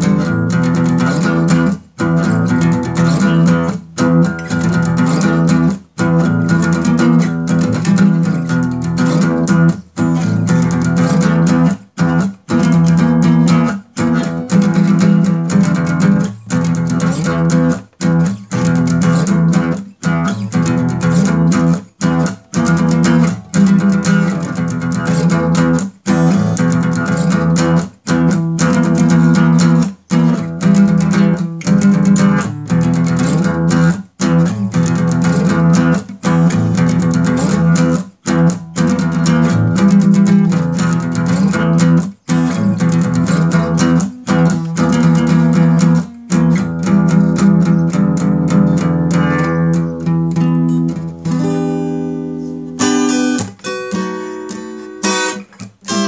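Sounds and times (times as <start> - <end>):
instrumental music with guitar tones: 0.0 - 56.0.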